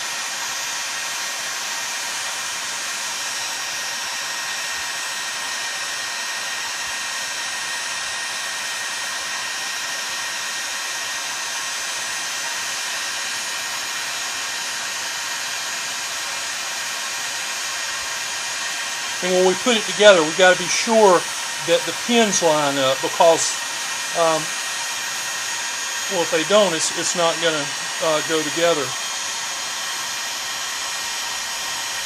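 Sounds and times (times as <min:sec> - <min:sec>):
heat gun blowing with faint whine: 0:00.0 - 0:32.0.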